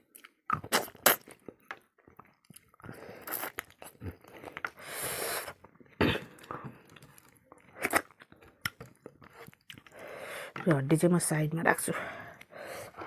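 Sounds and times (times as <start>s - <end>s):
person chewing and smacking: 0.0s - 10.6s.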